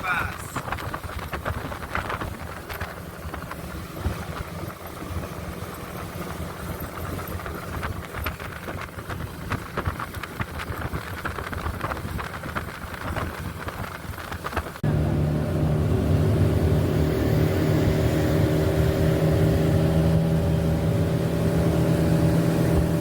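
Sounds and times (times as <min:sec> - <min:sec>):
motorboat engine running: 0:00.0 - 0:23.0
wind buffeting microphone: 0:00.0 - 0:23.0.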